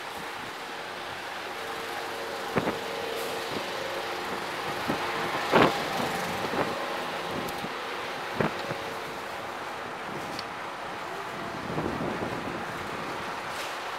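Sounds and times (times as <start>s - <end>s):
parking lot traffic: 0.0s - 13.9s.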